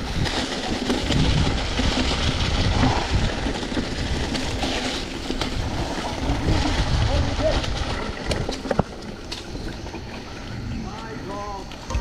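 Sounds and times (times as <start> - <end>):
bike knocking and rattling: 0.0 - 12.0
tyres rumbling on dirt: 0.0 - 12.0.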